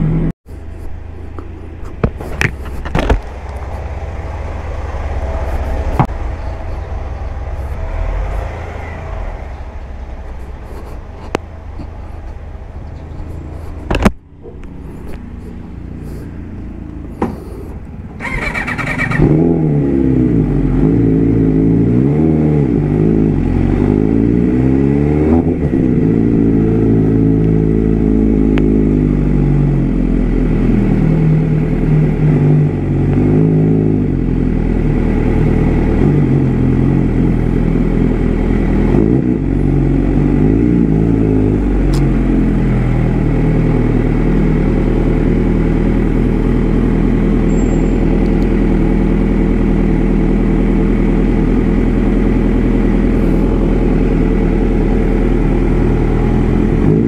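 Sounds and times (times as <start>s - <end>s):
motorcycle engine revving: 1.4s - 57.0s.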